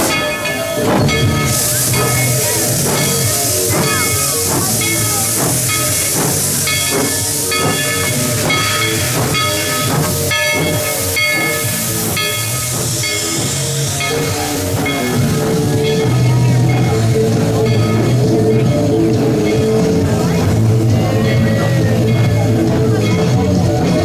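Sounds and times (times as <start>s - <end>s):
steam hissing: 0.0s - 24.0s
steam locomotive exhaust chuffs: 0.0s - 24.0s.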